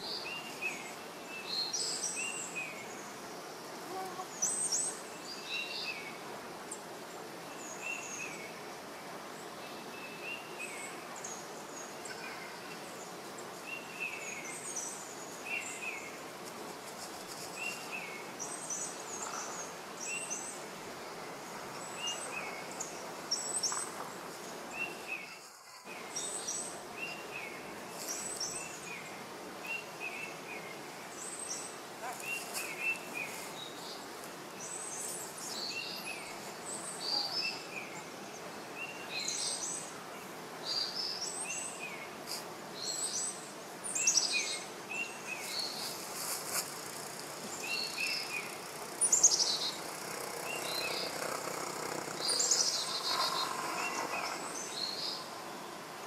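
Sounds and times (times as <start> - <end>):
birds chirping: 0.0 - 56.0
steady outdoor hiss: 0.0 - 56.0.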